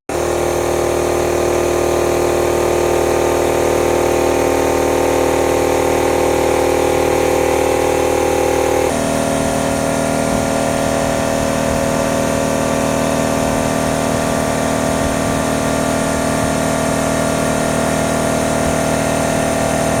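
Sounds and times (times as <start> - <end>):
air compressor humming: 0.1 - 20.0.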